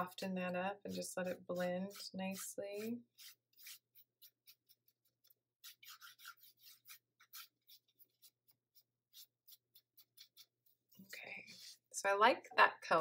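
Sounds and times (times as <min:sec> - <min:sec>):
brush swishing on paper: 0:00.9 - 0:11.9.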